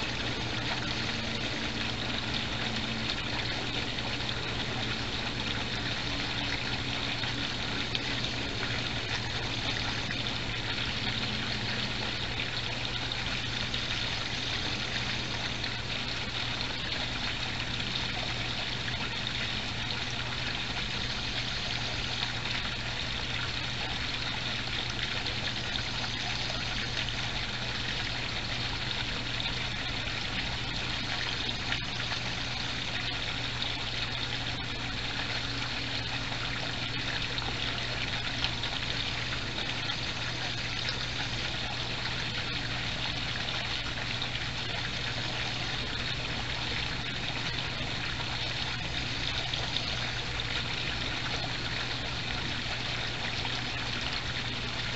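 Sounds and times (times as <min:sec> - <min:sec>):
constant low hum: 0:00.0 - 0:54.9
trickle of running water: 0:00.0 - 0:54.9.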